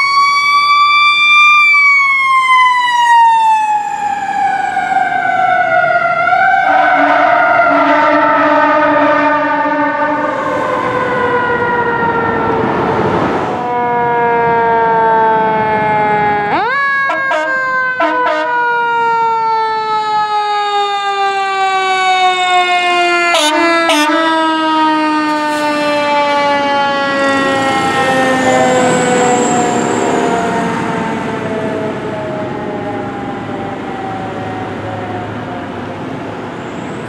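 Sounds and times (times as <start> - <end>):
fire engine mechanical siren: 0.0 - 37.0.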